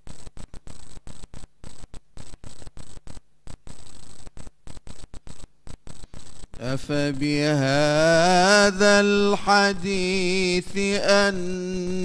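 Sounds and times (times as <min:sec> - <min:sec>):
faint high whine: 0:00.0 - 0:12.0
hiss and mains hum: 0:00.0 - 0:12.0.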